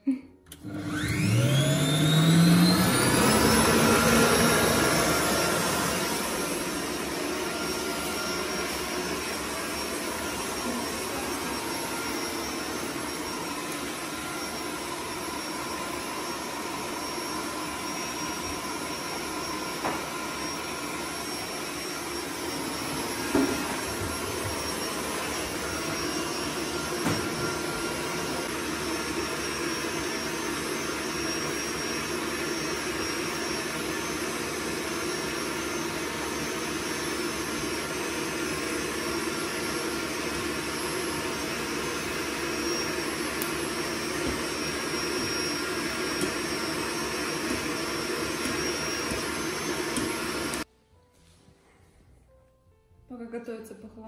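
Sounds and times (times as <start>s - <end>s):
kitchen appliance whirring: 0.5s - 50.7s.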